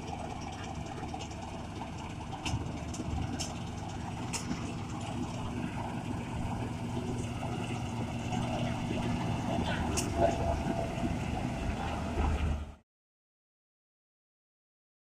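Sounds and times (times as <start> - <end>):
combine harvester engine drone: 0.0 - 12.8.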